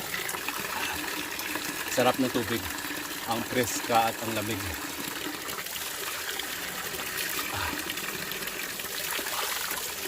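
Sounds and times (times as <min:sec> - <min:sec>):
spring water running and splashing: 0:00.0 - 0:10.0.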